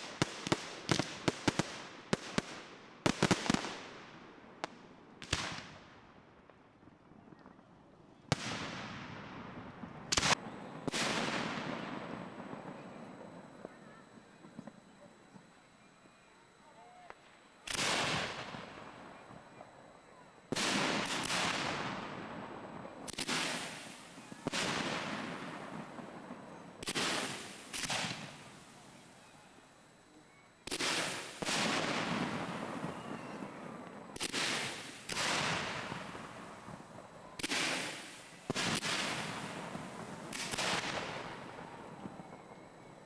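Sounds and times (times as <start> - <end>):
fireworks booming: 8.3 - 43.0.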